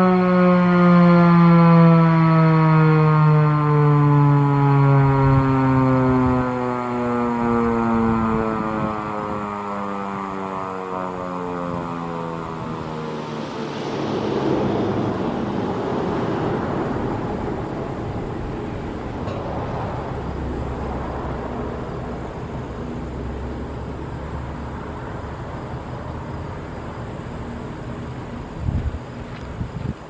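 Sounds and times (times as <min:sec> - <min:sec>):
siren falling tone: 0:00.0 - 0:28.5
rushing outdoor noise: 0:01.0 - 0:30.0.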